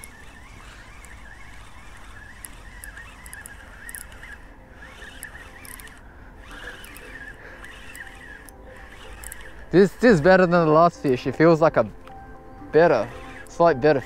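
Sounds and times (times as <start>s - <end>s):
fishing reel whirring: 0.0s - 14.0s.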